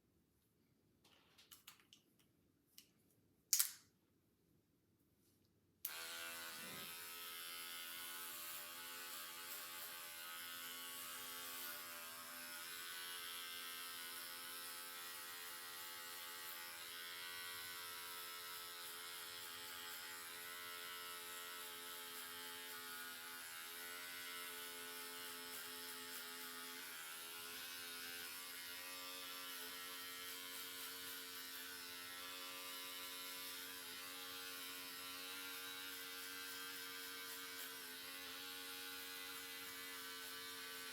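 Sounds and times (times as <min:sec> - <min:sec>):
electric hair clippers buzzing: 0:05.8 - 0:40.9.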